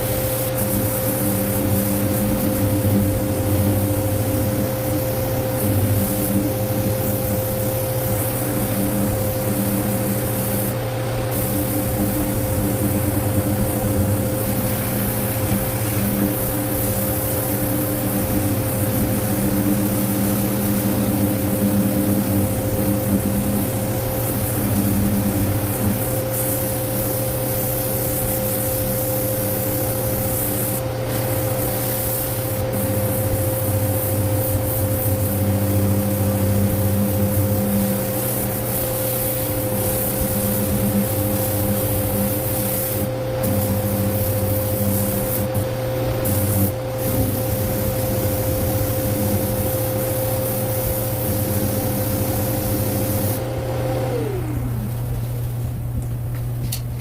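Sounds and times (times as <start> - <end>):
power sander running: 0.0 - 56.4.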